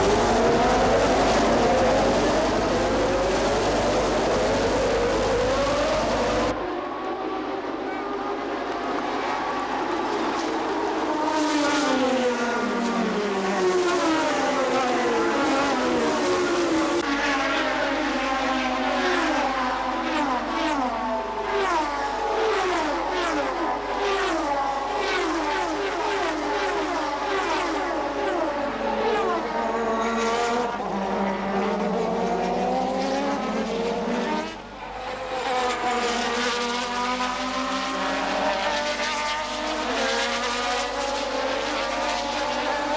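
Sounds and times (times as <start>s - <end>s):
racing car engines: 0.0s - 42.9s.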